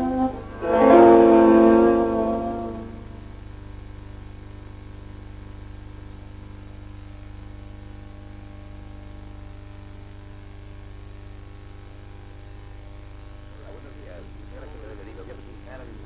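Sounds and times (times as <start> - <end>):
film soundtrack hum and hiss: 0.0 - 16.0.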